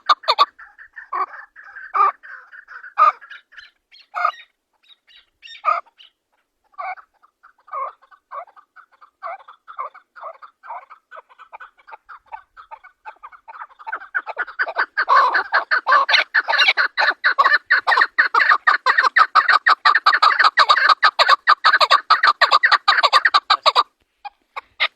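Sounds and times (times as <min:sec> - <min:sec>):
partridge chuck calls: 0:00.0 - 0:24.9.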